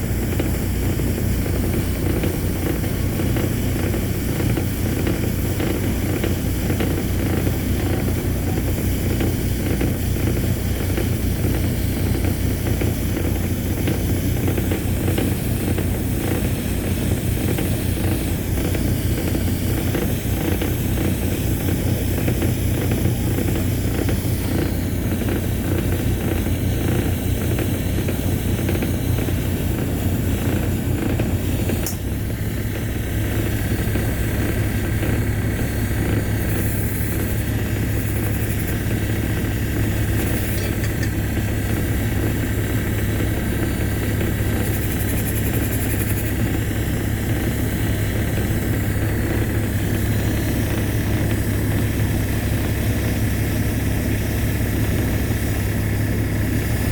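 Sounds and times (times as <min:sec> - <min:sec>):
ship diesel engines rumbling: 0:00.0 - 0:56.9.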